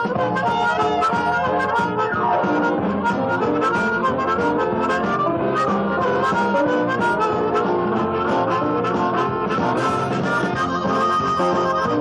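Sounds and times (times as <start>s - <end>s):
band music with drum beat: 0.0s - 12.0s.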